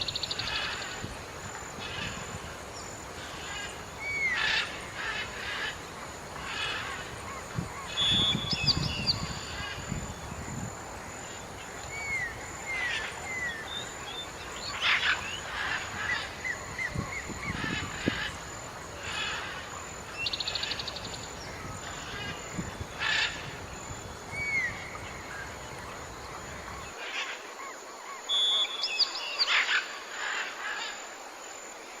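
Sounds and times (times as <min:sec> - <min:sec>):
wild birds chirping: 0:00.0 - 0:32.0.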